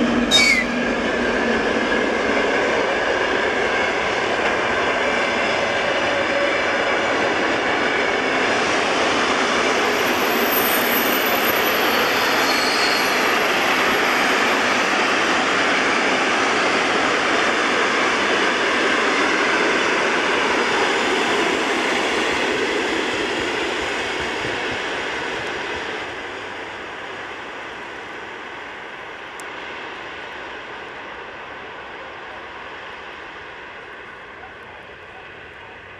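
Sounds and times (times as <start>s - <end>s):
train wheels on rails: 0.0s - 35.9s.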